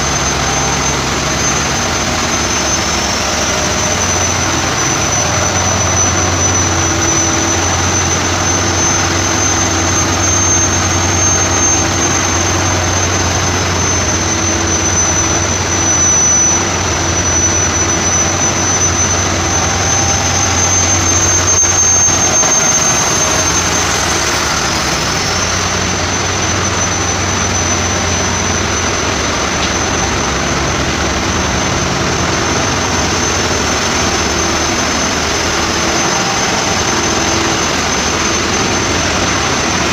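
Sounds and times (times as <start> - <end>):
diesel engine room hum: 0.0 - 39.9
high engine whine: 0.0 - 39.9.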